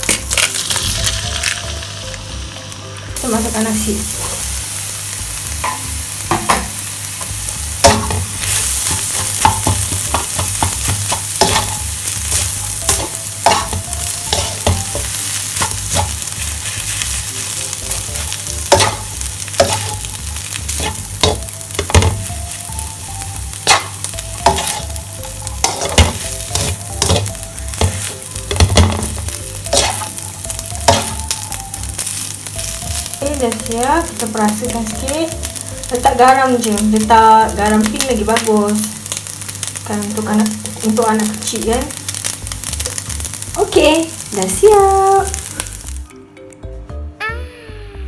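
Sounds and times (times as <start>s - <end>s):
rice sizzling in a pan: 0.0s - 46.1s.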